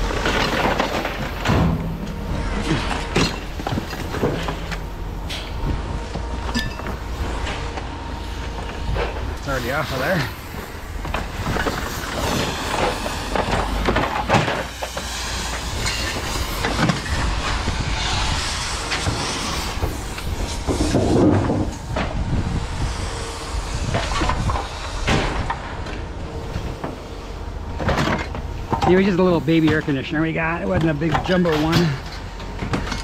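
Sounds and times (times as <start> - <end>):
low rumble and hiss: 0.0 - 33.0.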